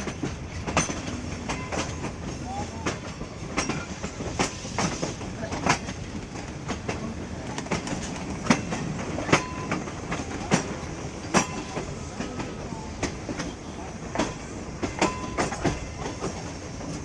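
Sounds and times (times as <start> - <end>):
train coaches rumbling on track: 0.0 - 17.0
wheels clacking over rail joints: 0.0 - 17.0.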